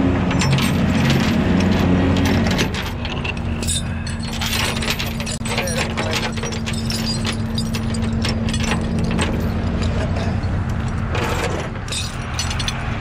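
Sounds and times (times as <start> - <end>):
truck engine humming: 0.0 - 13.0
steel chain clinking and rattling: 0.2 - 13.0.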